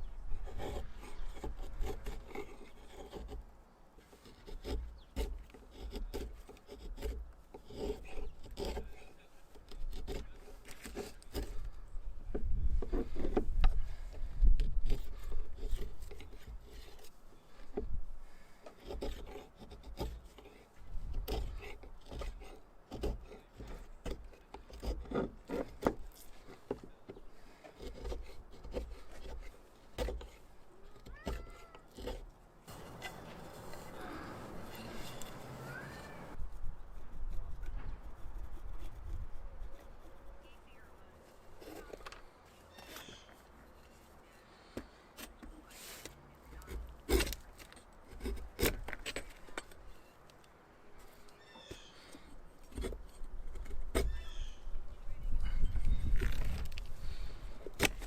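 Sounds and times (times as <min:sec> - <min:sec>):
hand tool shaving wood: 0:00.3 - 0:58.0.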